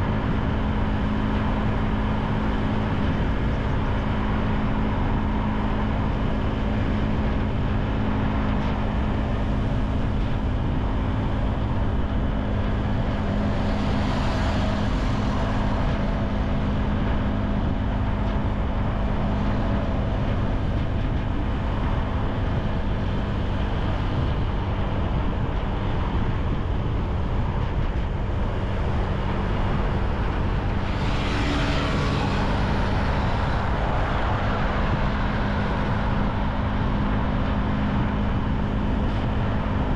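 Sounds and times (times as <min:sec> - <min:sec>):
low motorcycle engine hum: 0:00.0 - 0:39.9
road rumble: 0:00.0 - 0:39.9
wind rushing: 0:00.0 - 0:39.9.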